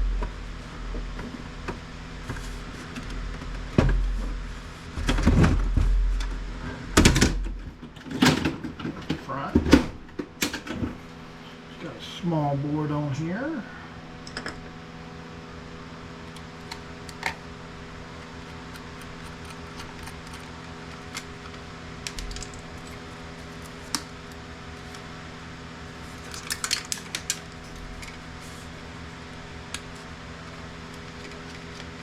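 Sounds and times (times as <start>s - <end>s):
steady background hum: 0.0s - 32.0s.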